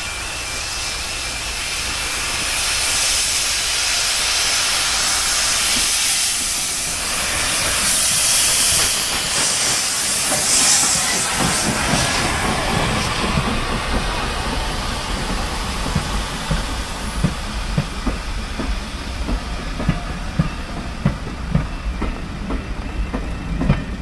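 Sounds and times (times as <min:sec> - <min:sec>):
steam hissing: 0:00.0 - 0:24.0
train rumble: 0:00.0 - 0:24.0.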